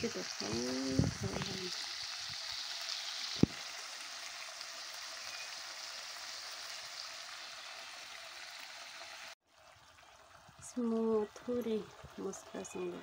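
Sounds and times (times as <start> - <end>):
meat curry sizzling in oil: 0.0 - 13.0.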